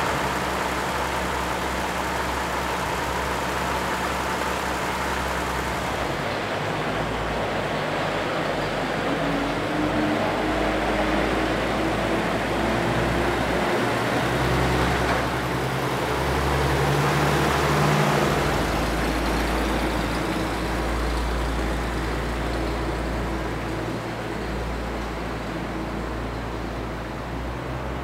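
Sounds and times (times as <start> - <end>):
truck engine passing by: 0.0 - 28.0.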